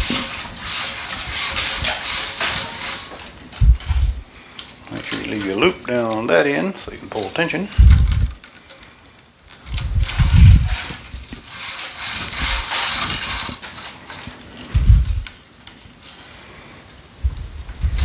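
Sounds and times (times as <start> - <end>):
string weaving through racket: 0.0 - 15.3.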